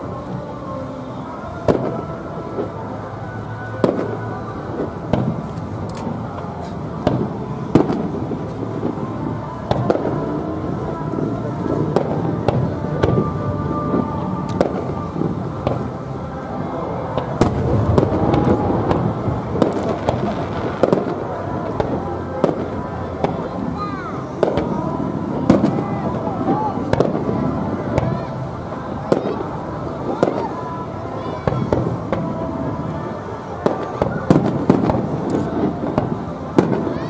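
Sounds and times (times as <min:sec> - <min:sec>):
firework bangs: 0:01.6 - 0:02.8, 0:03.7 - 0:37.0.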